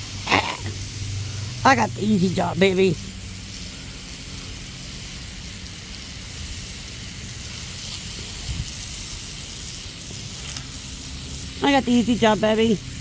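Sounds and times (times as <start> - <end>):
water spraying from a hose: 0.0 - 13.0.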